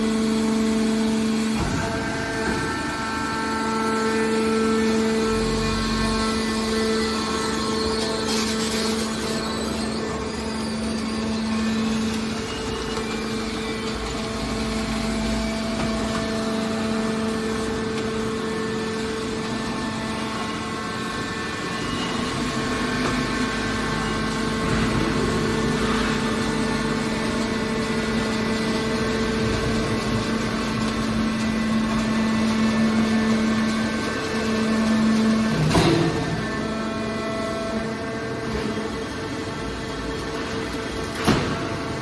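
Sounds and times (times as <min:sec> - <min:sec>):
hydraulic baler machine hum: 0:00.0 - 0:42.0.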